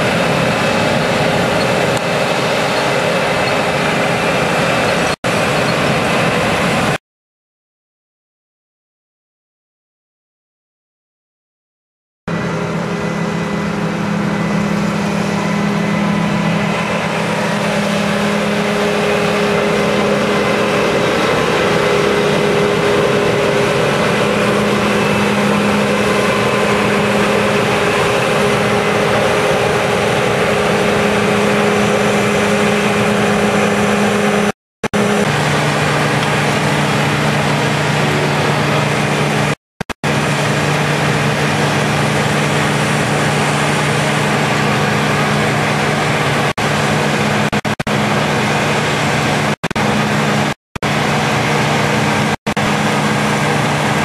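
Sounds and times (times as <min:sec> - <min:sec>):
harvester and tractor engines running: 0:00.0 - 0:07.0, 0:12.3 - 0:54.0.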